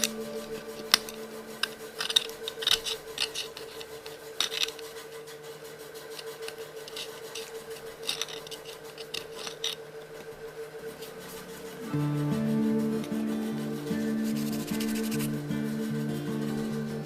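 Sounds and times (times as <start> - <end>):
faint steady hum: 0.0 - 17.0
hand tools scraping and clicking: 0.0 - 17.0.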